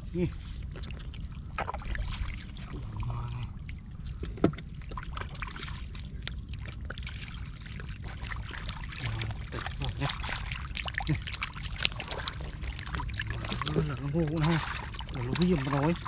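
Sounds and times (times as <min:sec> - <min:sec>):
muddy water splashing: 0:00.0 - 0:16.0.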